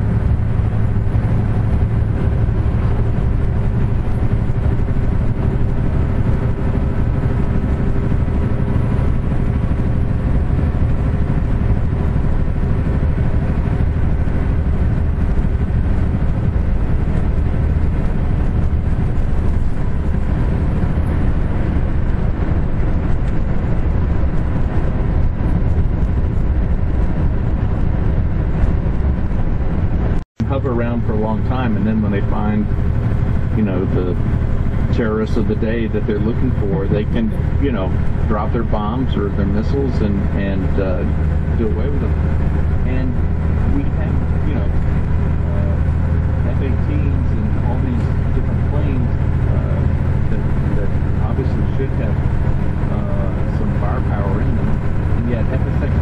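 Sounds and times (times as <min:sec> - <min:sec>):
diesel truck engine running: 0:00.0 - 0:56.0
tyre and road noise: 0:00.0 - 0:56.0.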